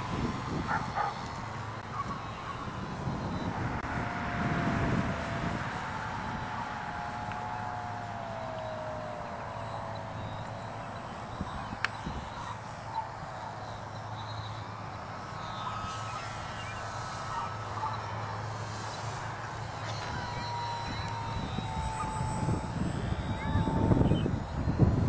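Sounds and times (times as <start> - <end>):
model plane motor whine: 0.0 - 25.0.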